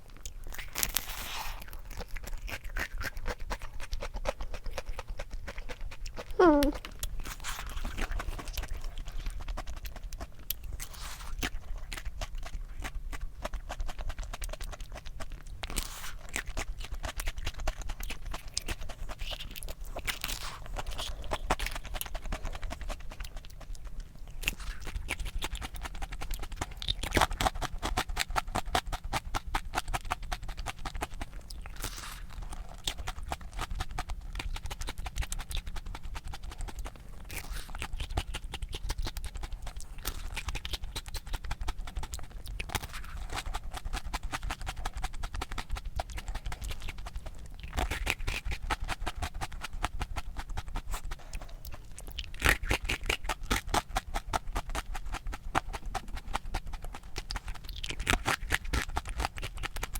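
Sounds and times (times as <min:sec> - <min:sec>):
chewing crisp ice cream cone: 0:00.0 - 0:59.9.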